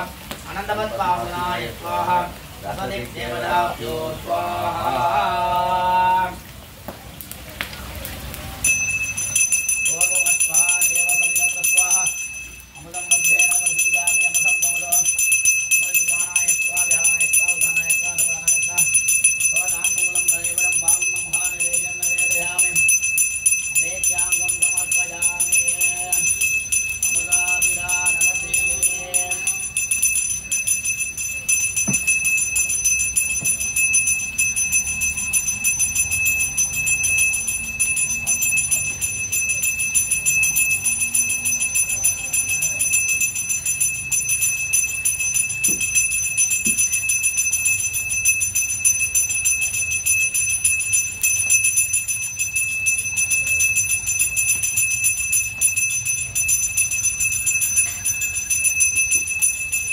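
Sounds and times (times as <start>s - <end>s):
small hand bell ringing rapidly: 8.6s - 59.9s.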